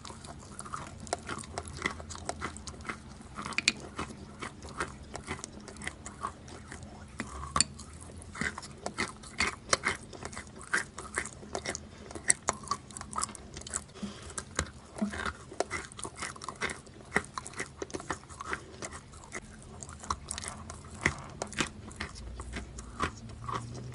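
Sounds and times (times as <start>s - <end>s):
person chewing crunchy chalk: 0.0s - 23.9s
wet mouth sounds: 0.0s - 23.9s.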